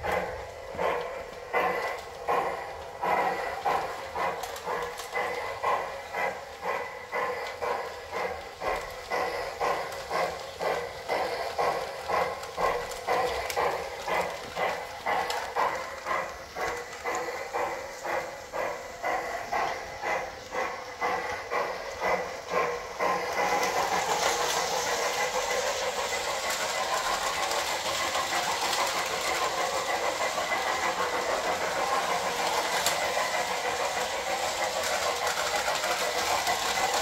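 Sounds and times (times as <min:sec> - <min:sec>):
toy steam locomotive chuffing: 0:00.0 - 0:37.0.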